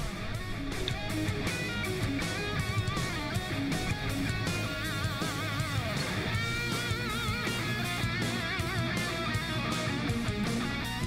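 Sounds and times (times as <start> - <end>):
electric guitar rock music: 0.0 - 11.0.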